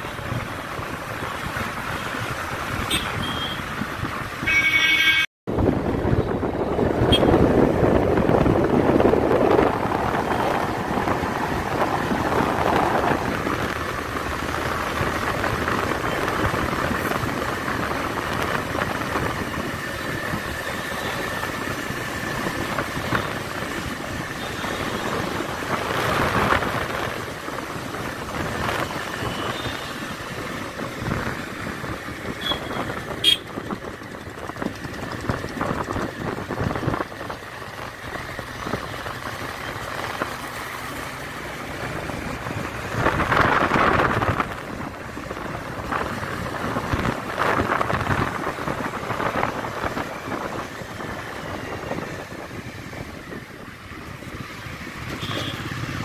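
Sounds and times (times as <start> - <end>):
wind rushing over microphone: 5.5 - 56.0
motorbike engine: 5.8 - 53.2.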